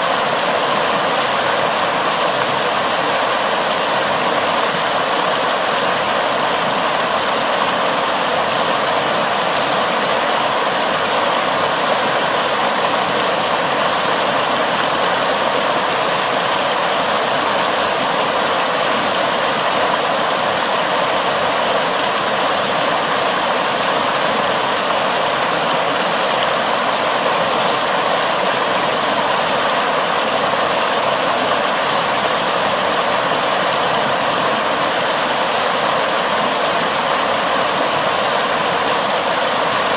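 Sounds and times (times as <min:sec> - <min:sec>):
water rushing over concrete edge: 0:00.0 - 0:39.9.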